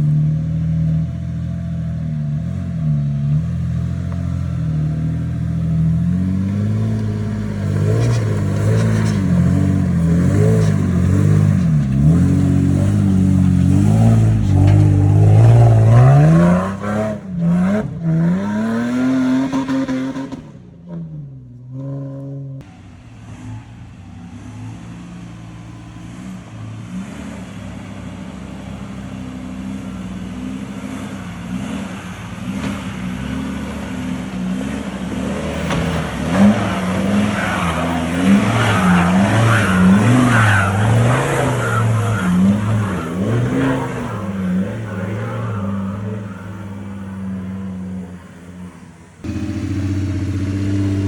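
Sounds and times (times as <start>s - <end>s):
vehicle engine revving: 0.0s - 51.0s.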